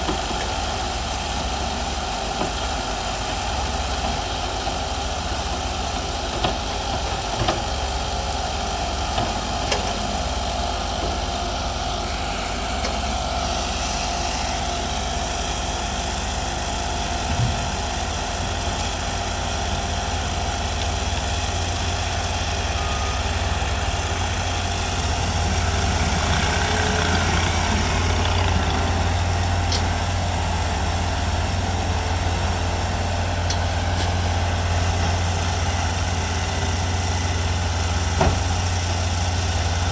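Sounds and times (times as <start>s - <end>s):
machinery engines humming: 0.0s - 39.8s.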